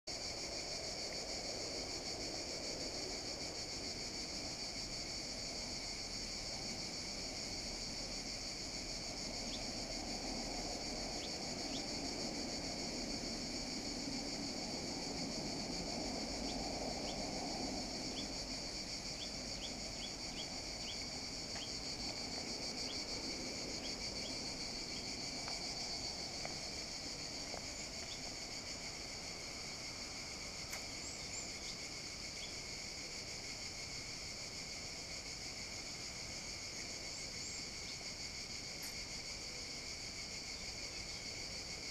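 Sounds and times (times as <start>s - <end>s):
insects buzzing: 0.1s - 41.9s.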